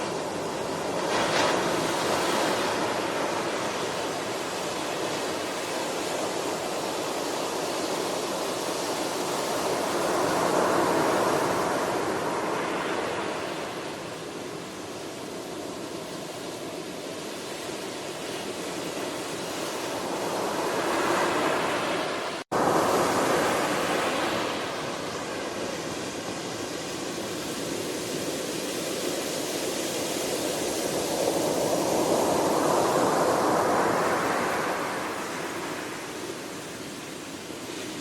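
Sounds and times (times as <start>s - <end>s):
ocean waves washing onto shore: 0.0s - 38.0s.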